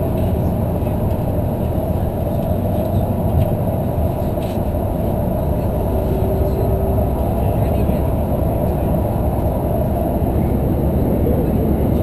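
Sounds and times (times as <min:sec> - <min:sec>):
bus engine and tyres rumbling: 0:00.0 - 0:12.0.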